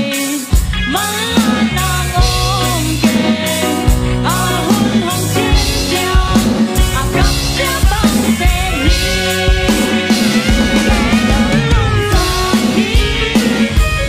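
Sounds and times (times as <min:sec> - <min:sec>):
bass guitar: 0:00.0 - 0:14.0
drum kit beating: 0:00.0 - 0:14.0
electric guitar: 0:00.0 - 0:14.0.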